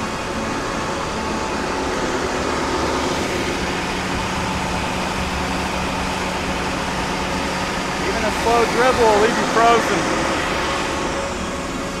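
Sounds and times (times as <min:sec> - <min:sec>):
pump truck engine droning: 0:00.0 - 0:12.0.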